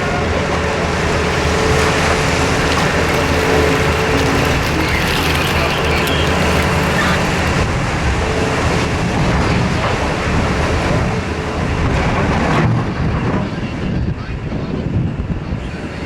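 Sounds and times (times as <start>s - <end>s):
excavator diesel engine running: 0.0s - 13.4s.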